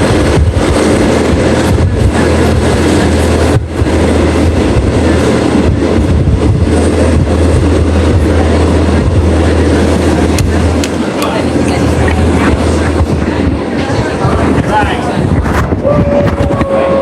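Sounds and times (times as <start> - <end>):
train rumble from aboard: 0.0 - 17.0.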